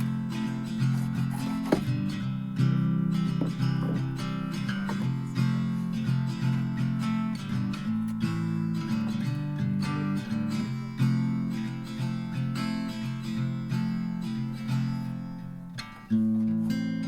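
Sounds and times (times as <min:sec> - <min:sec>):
indie rock acoustic guitar music: 0:00.0 - 0:17.0.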